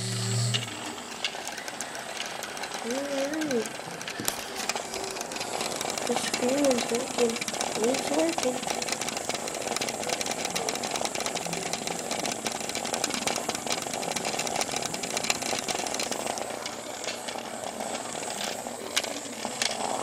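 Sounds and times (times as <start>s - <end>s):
vibrating toy robot buzzing: 0.0s - 20.0s.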